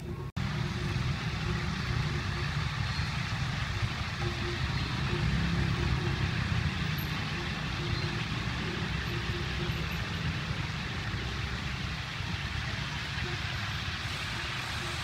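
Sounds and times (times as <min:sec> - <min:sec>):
street noise hiss: 0:00.0 - 0:15.0
vehicle engines rumbling: 0:00.0 - 0:15.0.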